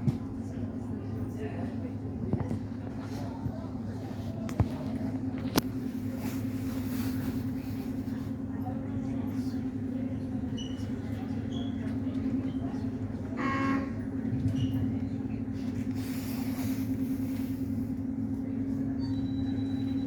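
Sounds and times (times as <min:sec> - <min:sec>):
ferry machinery drone: 0:00.3 - 0:20.0.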